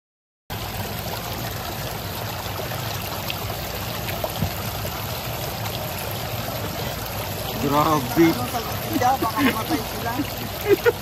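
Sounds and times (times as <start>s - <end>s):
fish splashing water: 0.5s - 11.0s.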